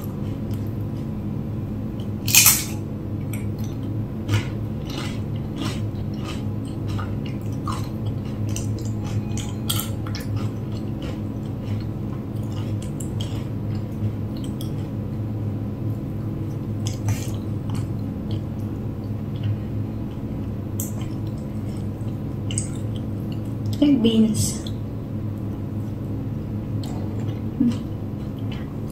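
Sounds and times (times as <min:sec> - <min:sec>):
person chewing crunchy food: 0:00.0 - 0:01.2, 0:01.9 - 0:15.2, 0:15.9 - 0:23.8, 0:25.4 - 0:28.9
steady low hum: 0:00.0 - 0:28.9.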